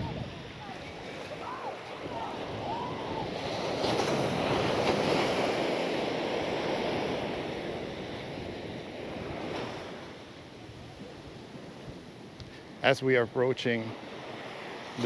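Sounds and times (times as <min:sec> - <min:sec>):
wave breaking on beach: 0:00.0 - 0:12.8, 0:13.6 - 0:15.0.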